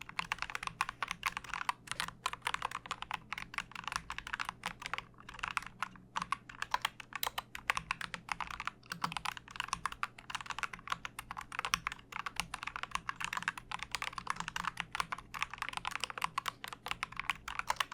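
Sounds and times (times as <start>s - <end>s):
mechanical keyboard typing: 0.0s - 17.9s.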